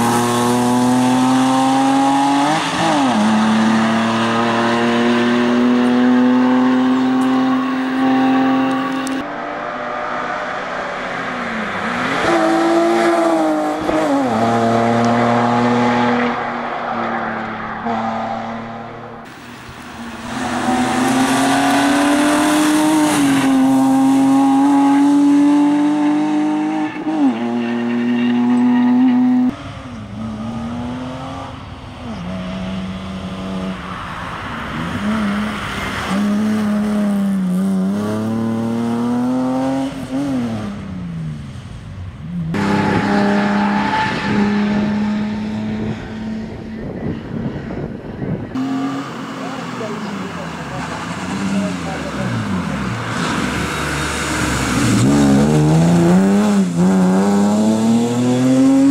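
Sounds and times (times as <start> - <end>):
rally car engine revving: 0.0 - 19.3, 20.0 - 41.4, 42.3 - 58.9.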